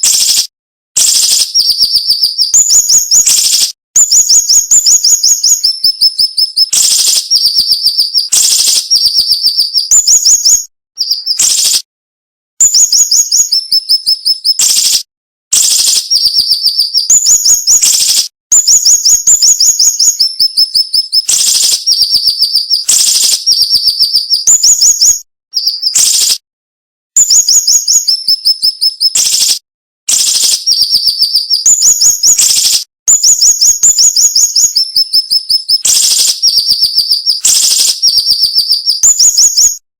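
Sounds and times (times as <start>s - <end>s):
bird chirping song: 1.0s - 11.8s, 12.6s - 15.0s, 15.6s - 26.4s, 27.2s - 39.8s.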